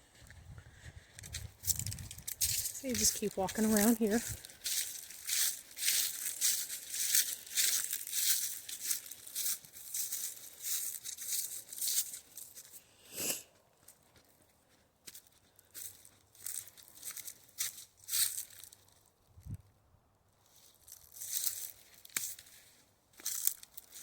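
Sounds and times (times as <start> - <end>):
footsteps crunching on dry trail: 0.0 - 12.8, 13.4 - 19.1, 20.5 - 24.0.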